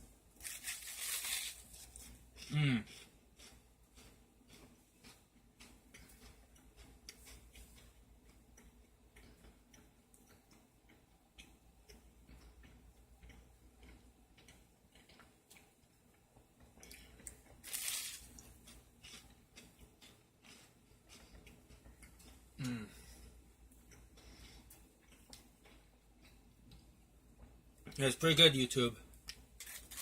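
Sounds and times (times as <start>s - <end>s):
chewing toasted sandwich: 0.3s - 28.0s, 29.2s - 30.0s.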